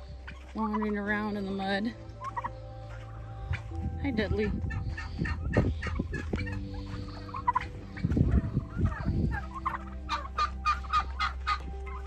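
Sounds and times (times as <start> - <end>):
low rumble: 0.0 - 12.0
turkeys calling: 0.0 - 12.0.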